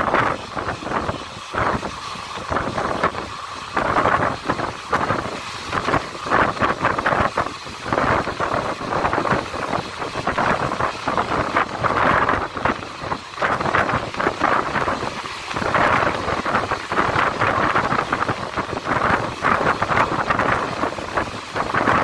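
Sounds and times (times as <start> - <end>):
train wheels rumbling on track: 0.0 - 22.0
wind buffeting microphone: 0.0 - 22.0.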